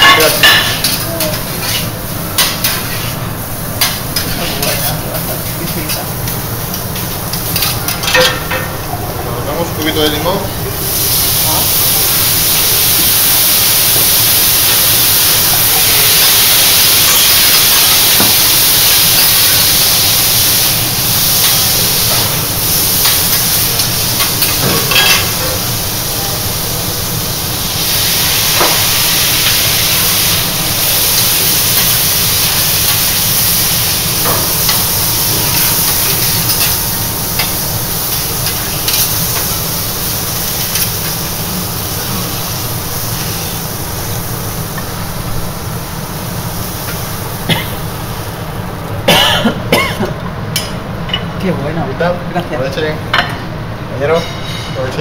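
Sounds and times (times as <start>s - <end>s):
liquid hissing on hot griddle: 0.0s - 49.3s.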